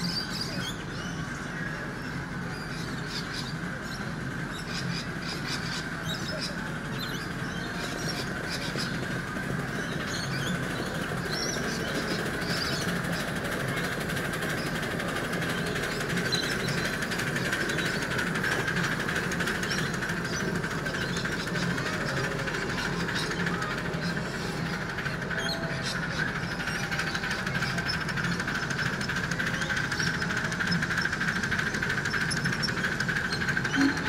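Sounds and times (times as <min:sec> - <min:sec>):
birds calling: 0:00.0 - 0:34.0
miniature steam locomotive running: 0:00.0 - 0:34.0
wheels clicking on rails: 0:00.0 - 0:34.0.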